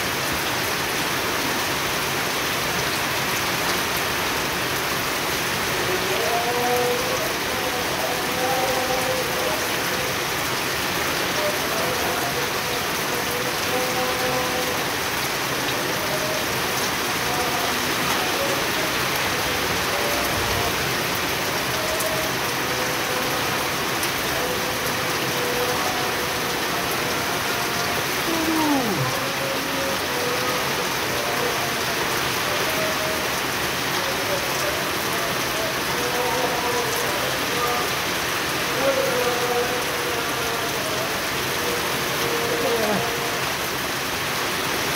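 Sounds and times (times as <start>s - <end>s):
heavy rain on pond and stone: 0.0s - 44.9s.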